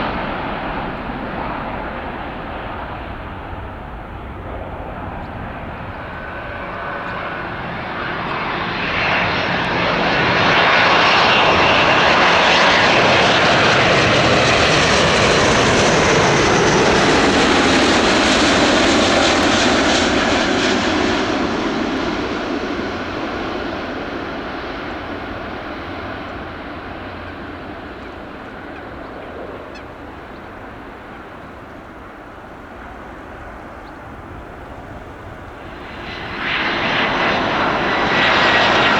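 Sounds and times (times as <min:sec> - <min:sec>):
jet airliner passing: 0:00.0 - 0:38.9.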